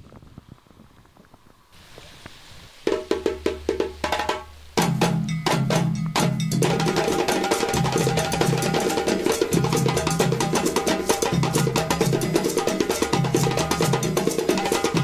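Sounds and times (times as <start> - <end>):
music with fast percussion beat: 2.9 - 15.0.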